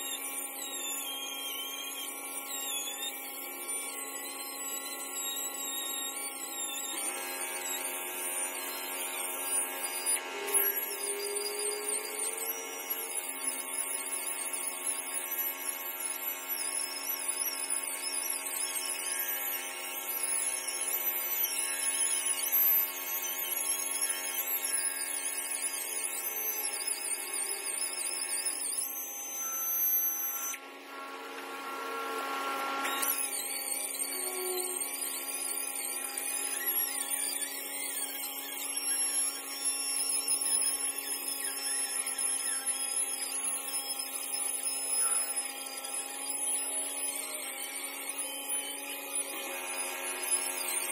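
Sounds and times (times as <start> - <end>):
stone polisher whine: 0.0 - 50.9.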